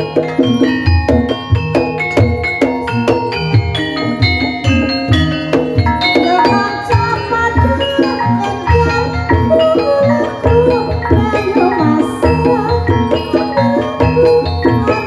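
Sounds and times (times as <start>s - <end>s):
tuned mallet percussion: 0.0s - 15.0s.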